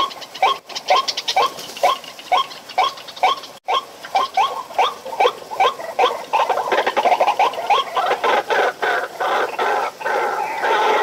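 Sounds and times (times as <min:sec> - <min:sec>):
waterhen calling: 0:00.0 - 0:11.0.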